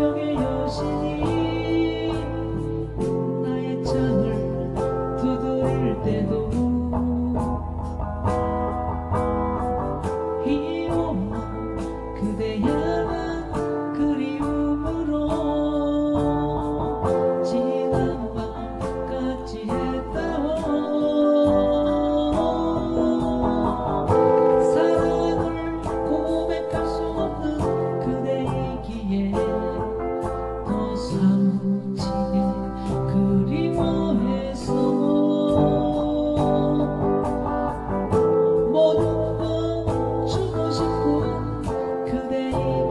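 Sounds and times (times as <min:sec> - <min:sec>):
song with guitar: 0:00.0 - 0:42.9.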